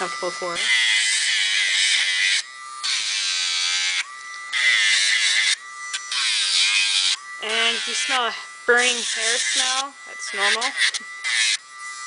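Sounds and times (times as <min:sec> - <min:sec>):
nail grinder whining and grinding: 0:00.0 - 0:12.0.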